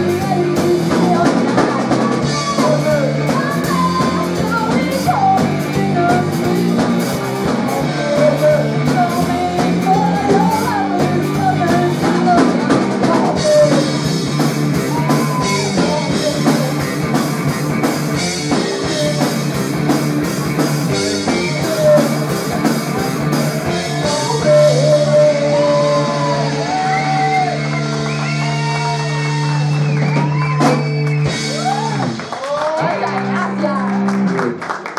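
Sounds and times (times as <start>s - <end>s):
person singing: 0.0s - 30.8s
drum kit: 0.0s - 34.9s
electric bass: 0.0s - 34.9s
electric guitar: 0.0s - 34.9s.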